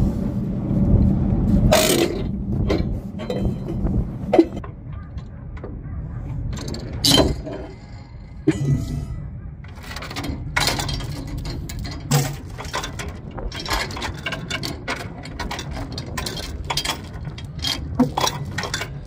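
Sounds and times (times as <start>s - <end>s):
steady low rumble: 0.0s - 19.0s
chains and ratchet clicking: 1.7s - 5.4s, 6.4s - 9.1s, 9.7s - 19.0s.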